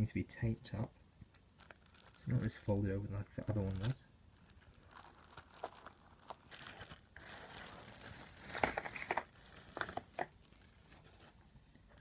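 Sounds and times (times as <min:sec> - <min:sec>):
paper packaging crinkling: 0:01.6 - 0:11.4.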